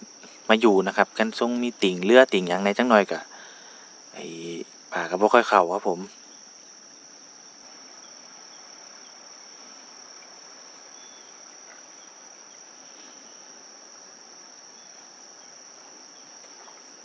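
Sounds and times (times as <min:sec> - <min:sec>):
crickets droning: 0:00.0 - 0:17.0
faint background hiss: 0:00.0 - 0:17.0.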